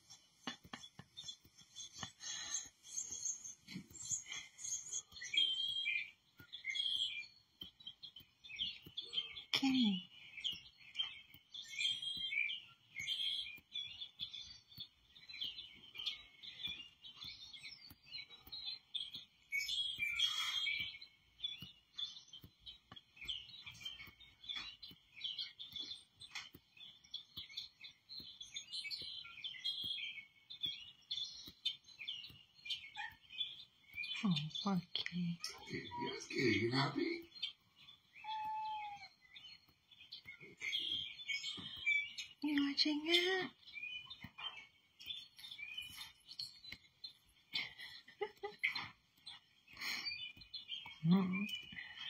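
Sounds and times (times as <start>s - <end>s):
recorded birdsong chirps: 0.0s - 52.0s.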